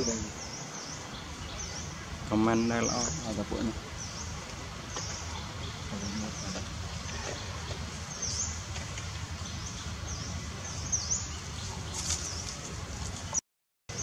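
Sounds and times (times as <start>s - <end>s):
low outdoor rumble: 0.0s - 13.4s.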